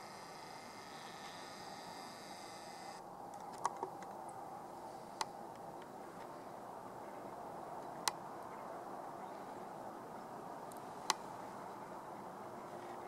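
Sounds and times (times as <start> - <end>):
camera microphone hiss: 0.0 - 13.0.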